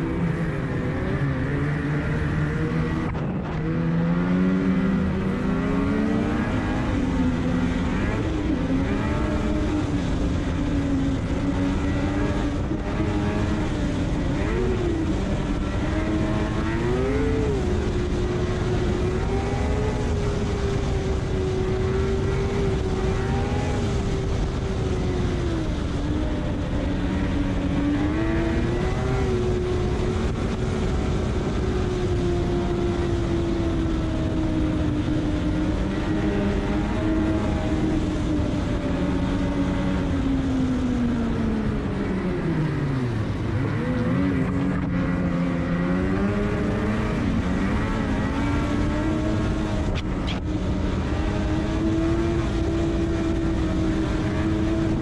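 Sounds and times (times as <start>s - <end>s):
snowmobile engine running hard: 0.0s - 55.0s
wind and track noise: 0.0s - 55.0s.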